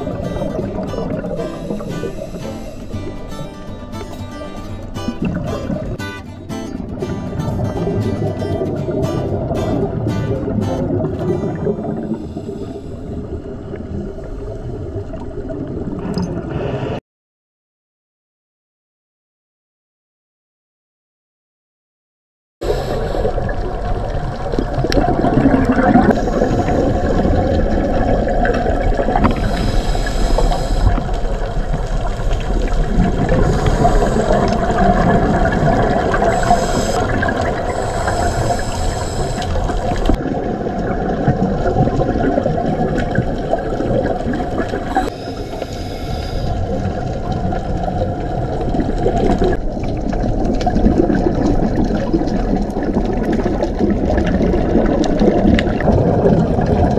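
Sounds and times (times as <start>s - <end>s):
underwater rushing water: 0.0s - 17.0s, 22.6s - 56.9s.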